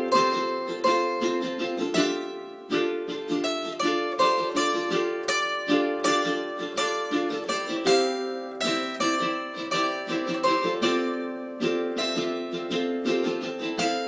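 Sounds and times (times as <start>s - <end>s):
plucked string instrument melody: 0.0s - 14.0s.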